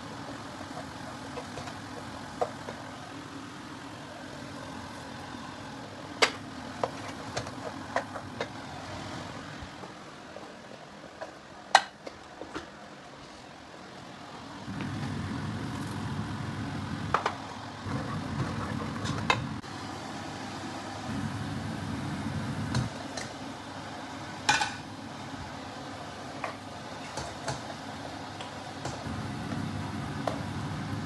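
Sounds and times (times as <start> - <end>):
low kitchen drone: 0.0 - 31.0.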